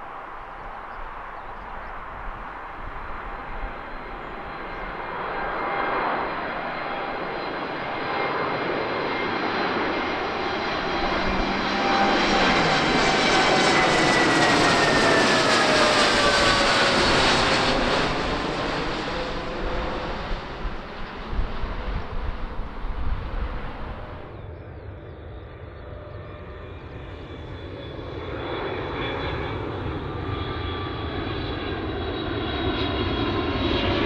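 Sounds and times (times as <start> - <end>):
airliner engine passing: 0.0 - 34.0.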